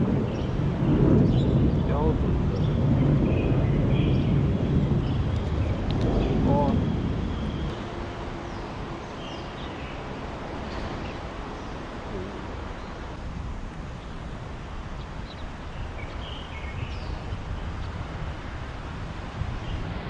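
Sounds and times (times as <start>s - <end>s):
rushing outdoor background noise: 0.0s - 20.0s.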